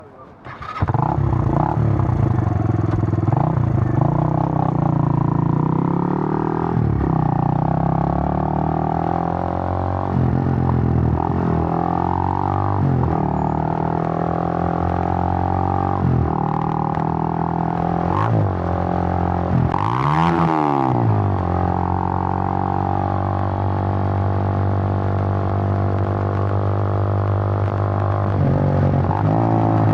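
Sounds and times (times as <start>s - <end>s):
motorcycle engine revving: 0.4s - 29.9s.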